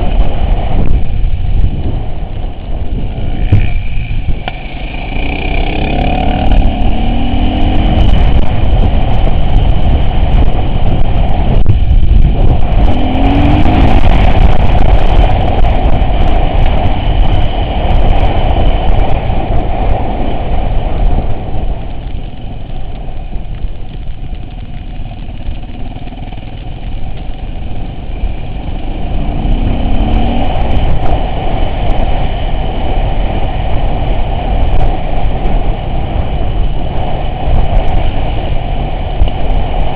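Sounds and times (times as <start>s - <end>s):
off-road vehicle engine under load: 0.0s - 39.9s.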